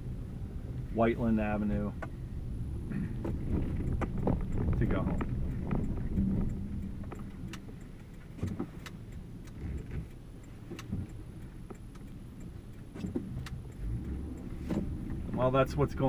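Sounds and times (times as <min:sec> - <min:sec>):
car engine and tyre rumble: 0:00.0 - 0:16.0
light clicks and rattles: 0:02.9 - 0:16.0.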